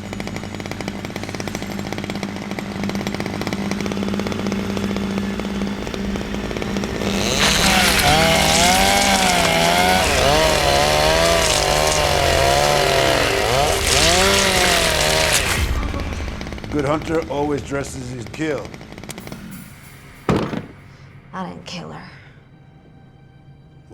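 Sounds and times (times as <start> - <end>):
chainsaw running and revving: 0.0 - 19.5.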